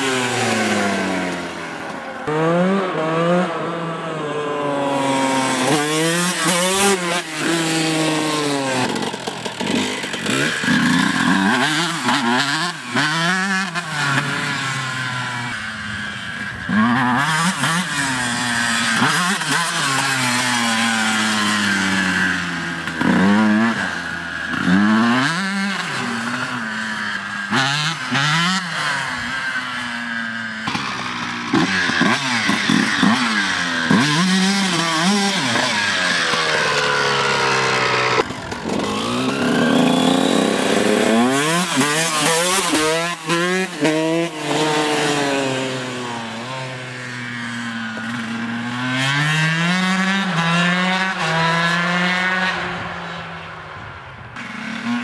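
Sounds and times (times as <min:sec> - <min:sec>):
two-stroke motorcycle engine revving: 0:00.0 - 0:55.0.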